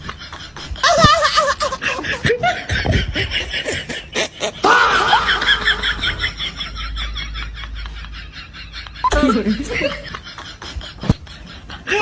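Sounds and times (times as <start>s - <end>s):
high-pitched laughter: 0.0s - 12.0s.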